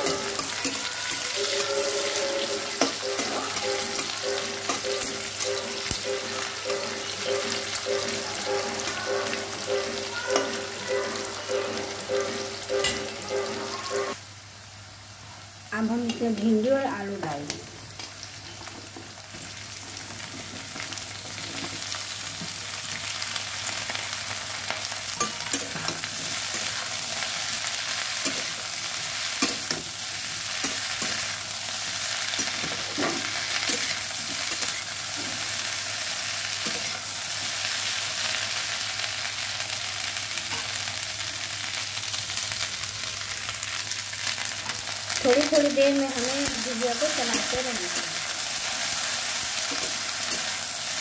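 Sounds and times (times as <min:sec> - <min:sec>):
vegetables sizzling in hot oil: 0:00.0 - 0:51.0.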